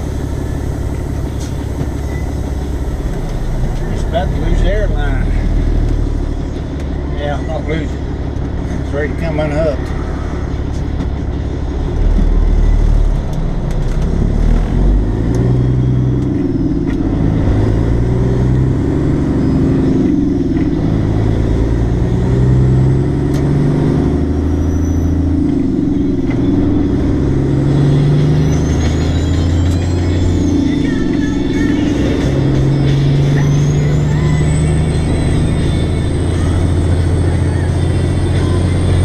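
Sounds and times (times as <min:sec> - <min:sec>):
truck diesel engine accelerating: 0:00.0 - 0:39.0.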